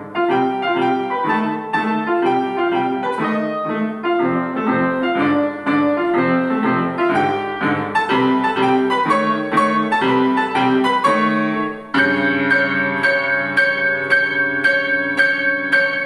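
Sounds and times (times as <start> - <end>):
piano playing: 0.0 - 16.0.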